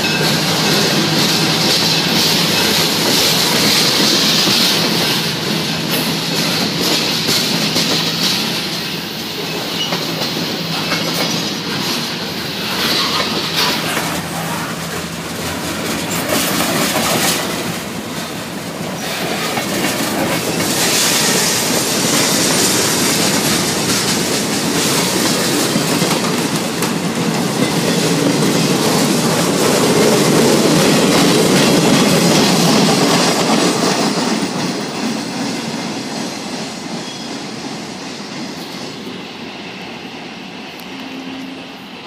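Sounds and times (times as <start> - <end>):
steel wheels clacking over rail joints: 0.0 - 39.2
freight train cars rolling past: 0.0 - 42.0.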